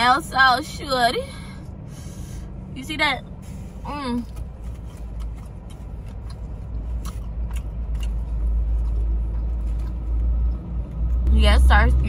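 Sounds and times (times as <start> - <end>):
car rumble inside cabin: 0.0 - 12.0.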